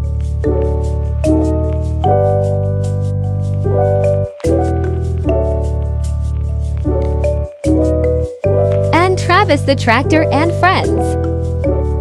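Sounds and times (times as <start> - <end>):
light ticking beat: 0.0 - 12.0
piano chords: 0.0 - 12.0.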